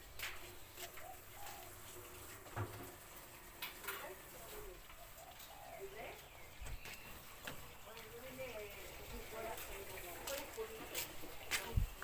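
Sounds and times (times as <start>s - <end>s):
birds calling with low wavering calls: 0.0s - 12.0s.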